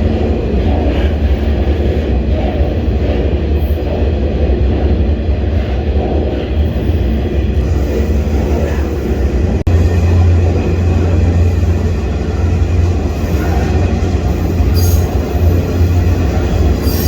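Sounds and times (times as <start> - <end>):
freight train rumbling and rattling: 0.0 - 17.0.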